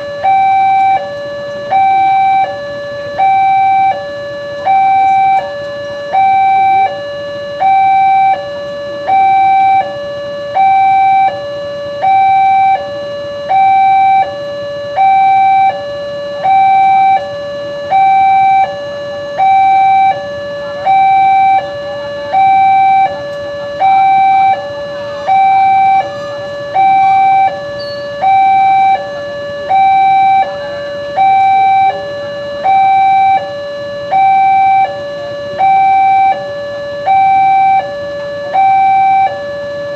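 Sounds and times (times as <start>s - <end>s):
two-tone electronic warning alarm: 0.0s - 39.9s.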